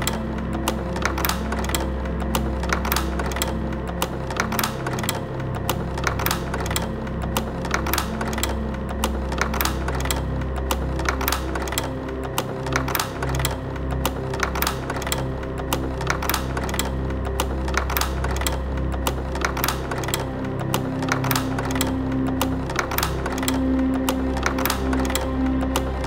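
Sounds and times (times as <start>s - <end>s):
music with dry clicking rhythm: 0.0s - 26.0s.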